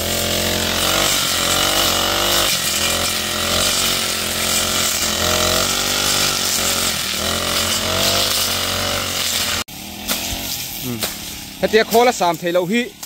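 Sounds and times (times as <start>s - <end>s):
brush cutter engine revving: 0.0s - 13.0s.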